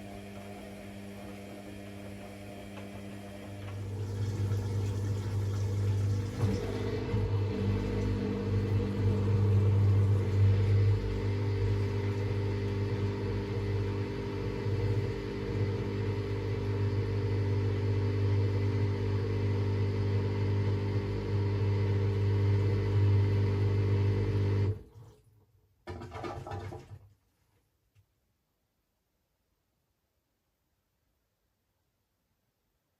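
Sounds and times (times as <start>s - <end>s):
washing machine hum: 0.0s - 27.3s.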